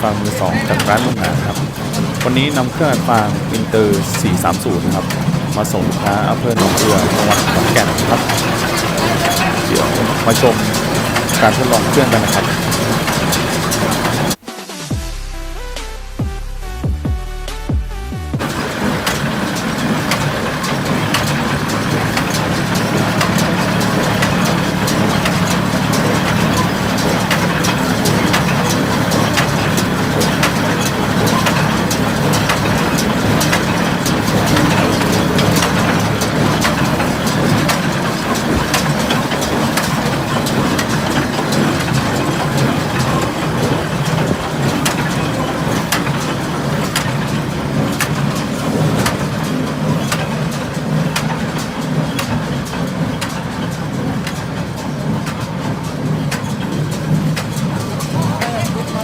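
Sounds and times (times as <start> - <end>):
baler mechanism clattering: 0.0 - 14.4, 18.4 - 59.0
tractor engine humming: 0.0 - 16.8, 18.4 - 59.0.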